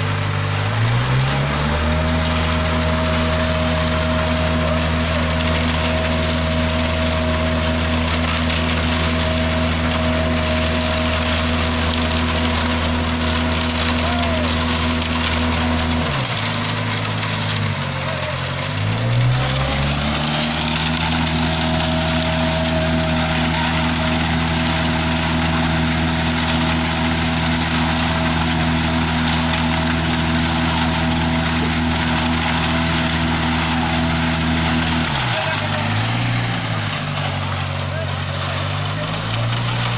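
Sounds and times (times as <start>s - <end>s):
concrete mixer engine running: 0.0s - 39.9s.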